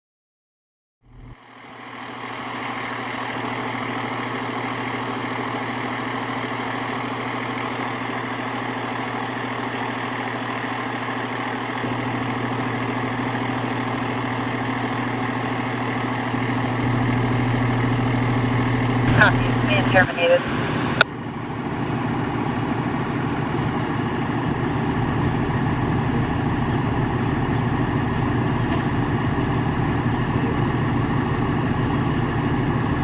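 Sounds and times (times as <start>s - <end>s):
fire truck engine idling: 1.2s - 33.0s.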